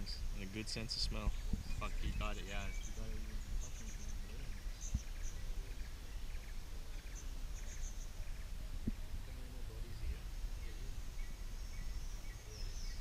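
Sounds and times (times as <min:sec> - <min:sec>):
low wind rumble on microphone: 0:00.0 - 0:13.0
rapid high wildlife chirps: 0:00.0 - 0:13.0.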